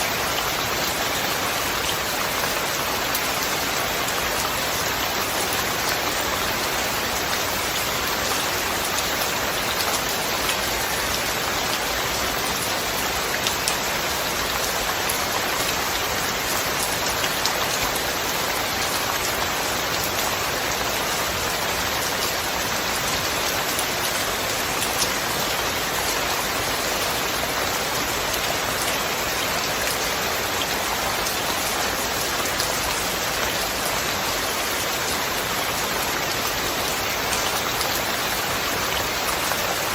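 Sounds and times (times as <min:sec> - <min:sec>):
steady rain with drop ticks: 0:00.0 - 0:39.9.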